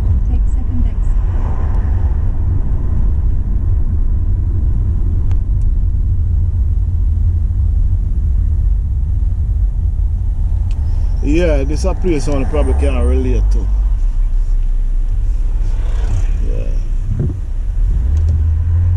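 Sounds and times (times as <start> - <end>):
engine and tyre noise: 0.0 - 18.9.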